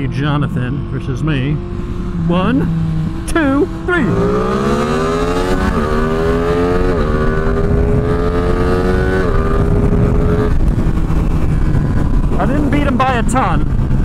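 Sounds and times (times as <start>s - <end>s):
motorcycle engine accelerating: 0.0s - 14.0s
gear upshifts: 0.7s - 14.0s.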